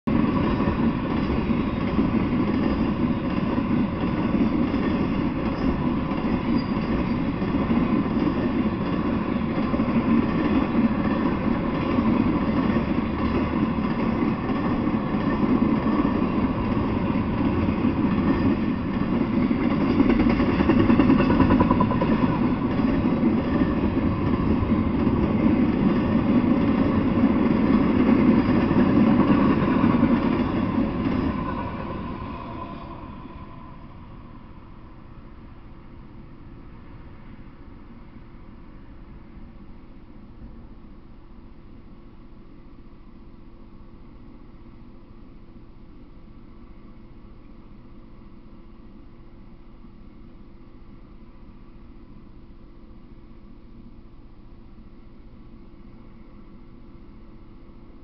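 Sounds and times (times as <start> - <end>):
freight train wheels rumbling on rails: 0.1 - 49.9.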